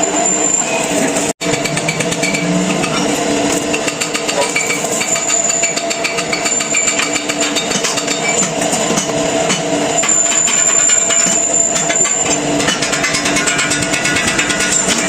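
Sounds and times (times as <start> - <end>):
rattling crackling metalworking tool: 1.4 - 15.0.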